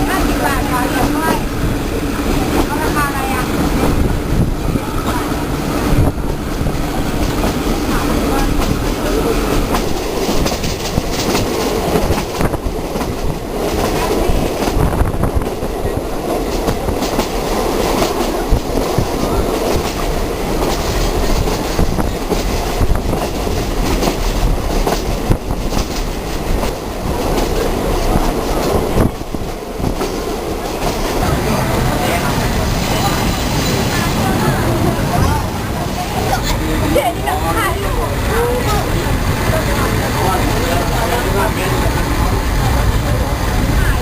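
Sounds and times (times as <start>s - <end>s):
train running on track: 0.0s - 44.0s.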